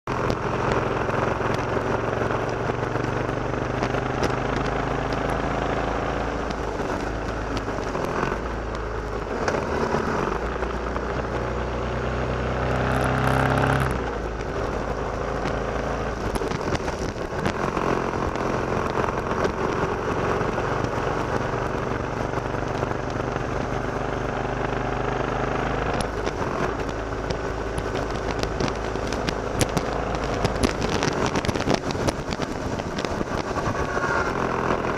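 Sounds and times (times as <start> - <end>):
motorcycle engine running: 0.0 - 34.9
road and wind noise: 0.0 - 34.9.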